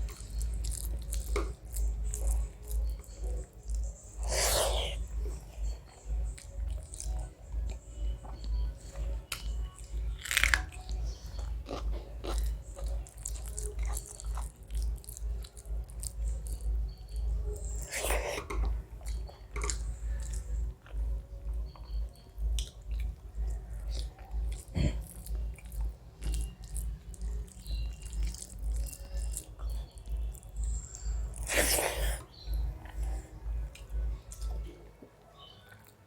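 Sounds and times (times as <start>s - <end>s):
person chewing food: 0.0s - 8.5s, 9.3s - 22.0s, 22.6s - 34.6s.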